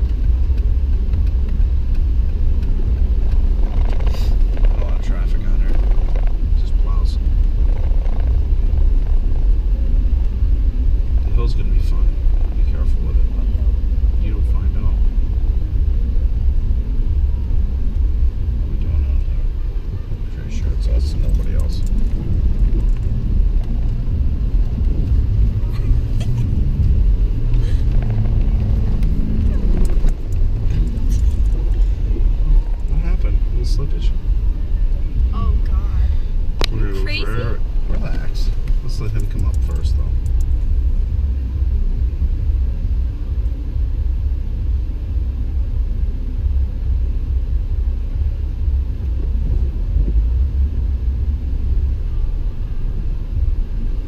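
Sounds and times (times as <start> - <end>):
car engine rumble: 0.0 - 54.0
tyres on snowy road: 0.0 - 54.0.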